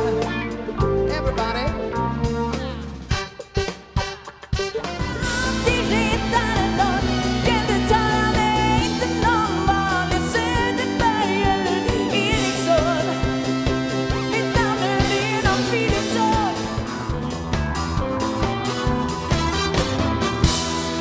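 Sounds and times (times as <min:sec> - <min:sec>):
pop-rock band music: 0:00.0 - 0:21.0.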